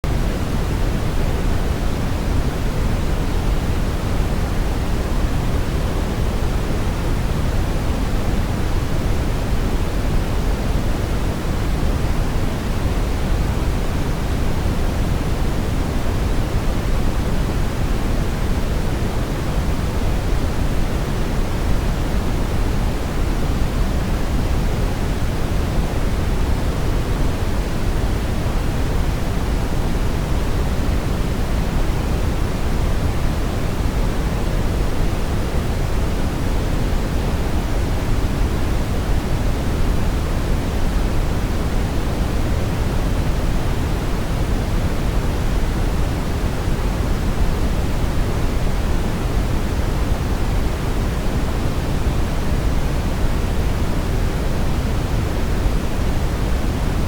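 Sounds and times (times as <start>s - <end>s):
brown noise rumbling hiss: 0.0s - 57.0s.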